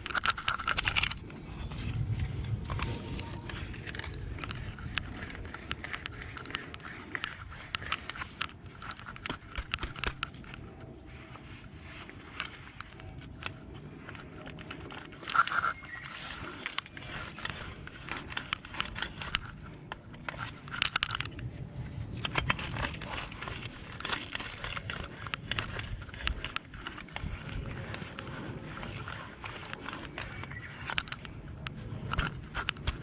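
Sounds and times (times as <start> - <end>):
tools and parts clinking: 0.0 - 1.8, 2.5 - 21.4, 22.2 - 33.0.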